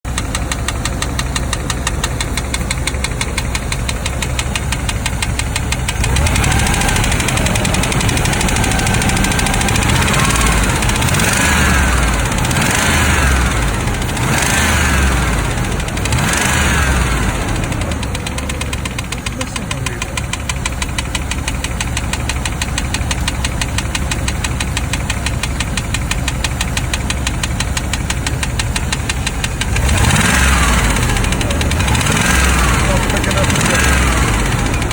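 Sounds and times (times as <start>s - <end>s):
car engine idling and revving: 0.0s - 34.9s
engine ticking knock: 0.0s - 34.9s.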